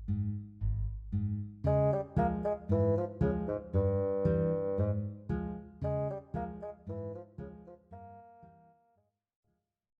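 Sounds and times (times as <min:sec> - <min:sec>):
plucked acoustic guitar: 0:00.0 - 0:08.5.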